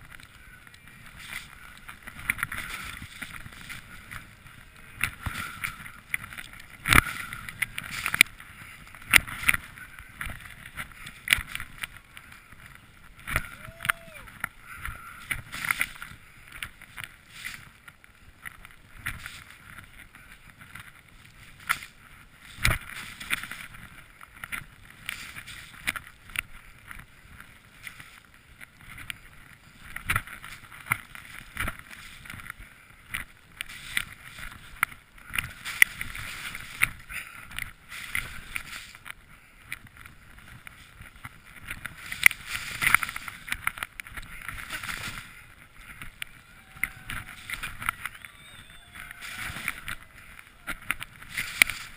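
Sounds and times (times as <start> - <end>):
skis swishing through powder snow: 0.1 - 51.9.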